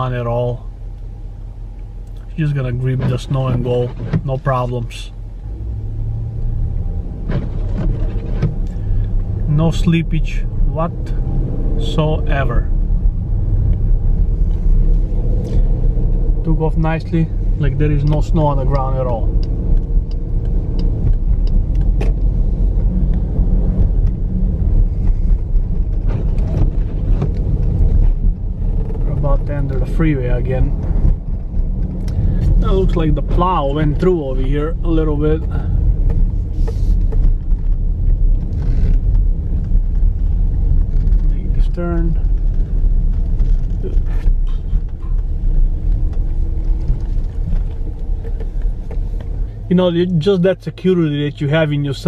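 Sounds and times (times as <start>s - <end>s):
car engine low rumble: 0.0s - 52.0s.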